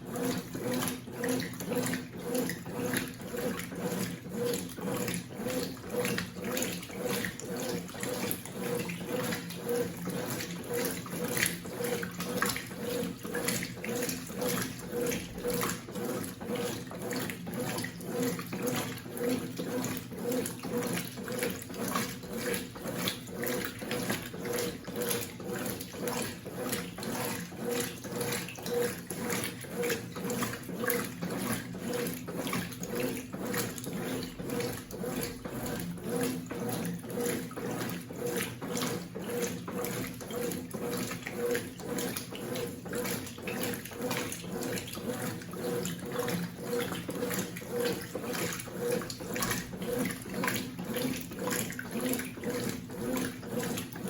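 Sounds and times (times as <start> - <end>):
washing machine motor hum: 0.0 - 54.0
water sloshing in washing machine: 0.0 - 54.0.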